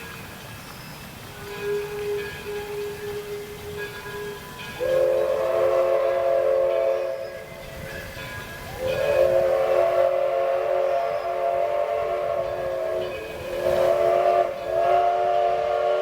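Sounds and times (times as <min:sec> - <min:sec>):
steam locomotive whistle blasts: 0:01.4 - 0:16.0.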